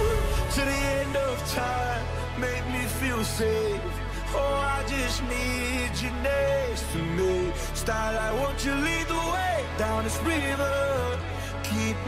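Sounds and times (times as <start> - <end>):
background pop music: 0.0 - 12.0.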